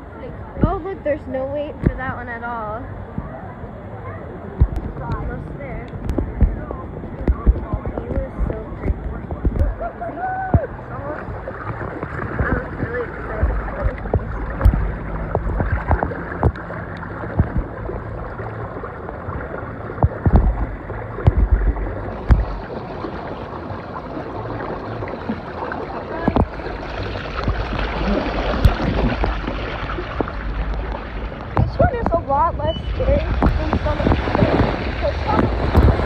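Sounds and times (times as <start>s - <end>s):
running water: 0.0s - 36.0s
wind buffeting microphone: 0.0s - 36.0s.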